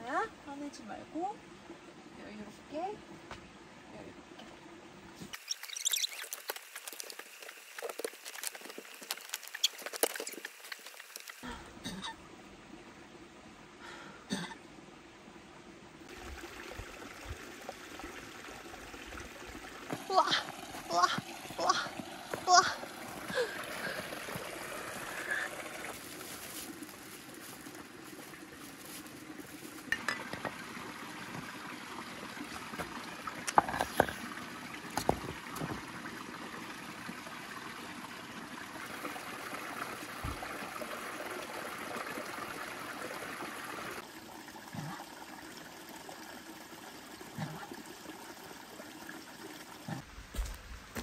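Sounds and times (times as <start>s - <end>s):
quiet outdoor background: 0.0s - 51.0s
water trickling into pool: 4.2s - 15.3s, 16.0s - 50.1s.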